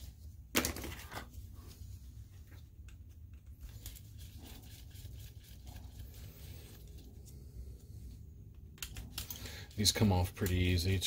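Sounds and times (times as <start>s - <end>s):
steady low hum: 1.4s - 10.6s.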